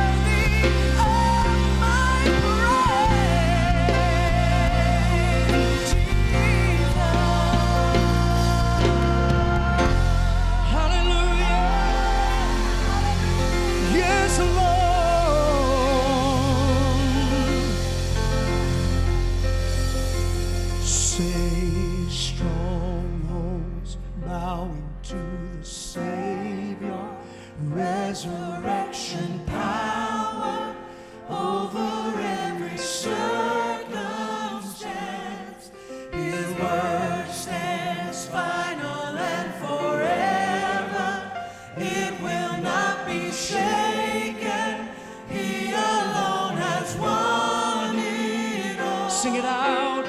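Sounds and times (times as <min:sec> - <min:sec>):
group of voices singing: 0:00.0 - 0:23.6, 0:25.4 - 0:50.0
band playing worship music: 0:00.0 - 0:50.0.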